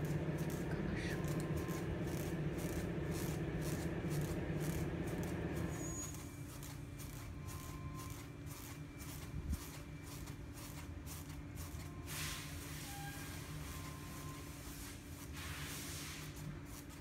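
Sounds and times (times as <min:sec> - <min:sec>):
low hum of room and machinery: 0:00.0 - 0:17.0.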